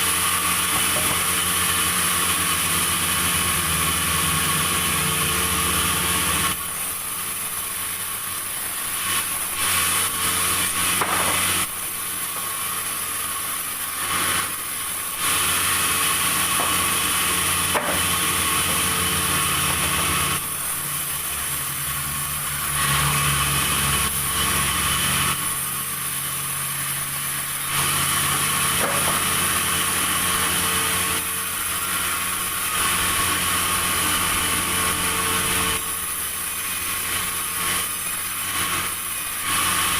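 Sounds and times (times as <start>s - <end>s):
engine running steadily: 0.0s - 39.9s
saw cutting timber: 0.0s - 39.9s.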